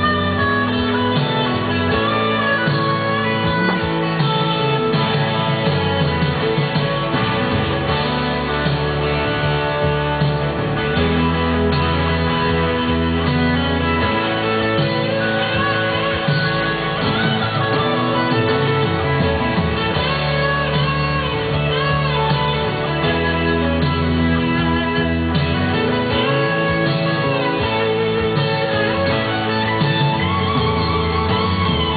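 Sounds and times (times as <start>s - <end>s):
bass line: 0.0s - 31.9s
bending lead guitar line: 0.0s - 31.9s
guitars playing: 0.0s - 31.9s.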